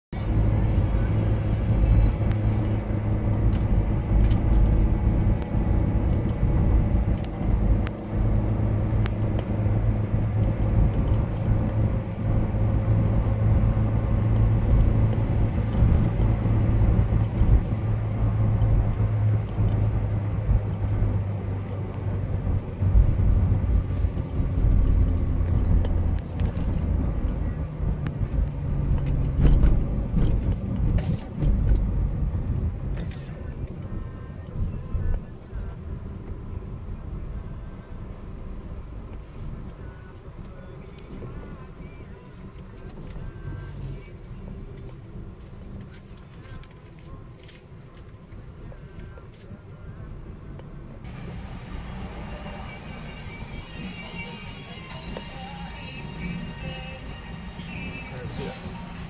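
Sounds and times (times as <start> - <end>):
car cabin road drone: 0.1 - 59.0.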